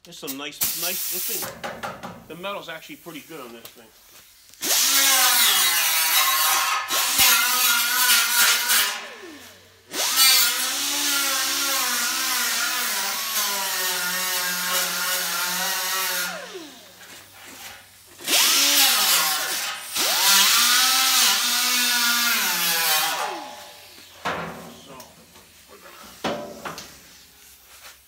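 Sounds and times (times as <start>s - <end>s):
pneumatic grinder whining on metal: 4.5s - 27.4s.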